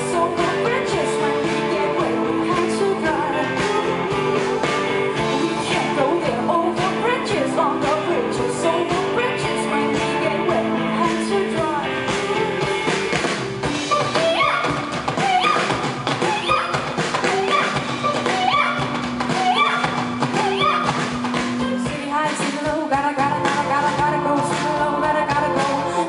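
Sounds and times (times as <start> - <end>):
drum kit: 0.0 - 26.0
electric guitar: 0.0 - 26.0
keyboard: 0.0 - 26.0.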